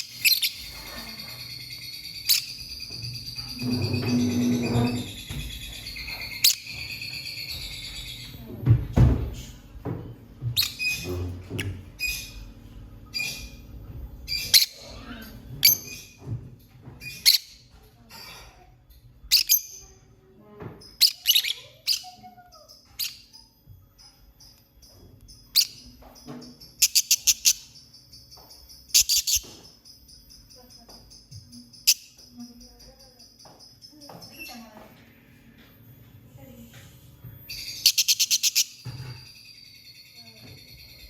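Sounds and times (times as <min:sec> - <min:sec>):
lovebirds chirping: 0:00.0 - 0:16.3, 0:20.8 - 0:34.8, 0:37.5 - 0:41.0.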